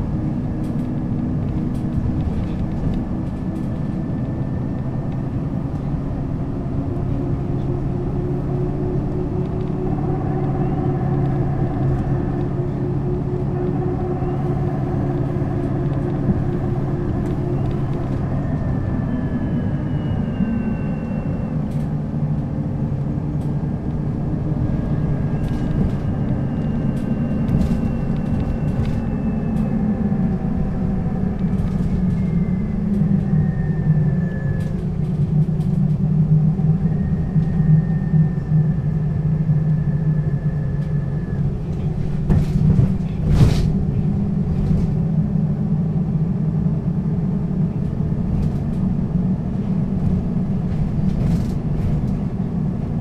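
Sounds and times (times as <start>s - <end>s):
bus engine rumbling: 0.0s - 53.0s.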